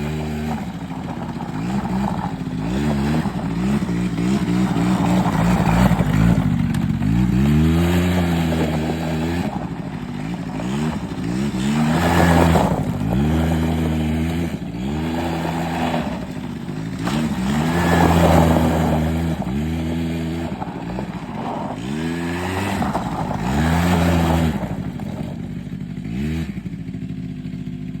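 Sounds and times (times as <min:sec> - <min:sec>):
quad engine revving: 0:00.0 - 0:28.0.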